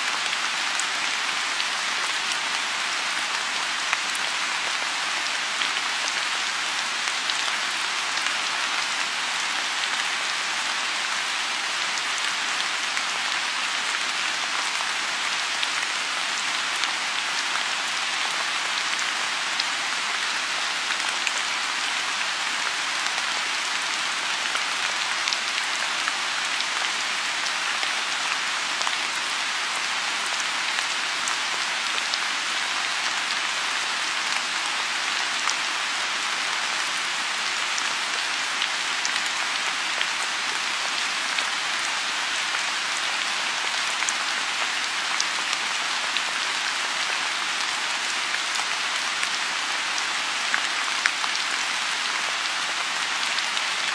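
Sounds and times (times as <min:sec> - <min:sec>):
rain falling on a pond: 0:00.0 - 0:53.9.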